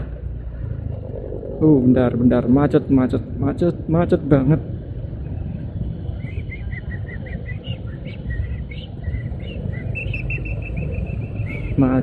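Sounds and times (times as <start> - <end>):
motorbike traffic: 0.0 - 12.0.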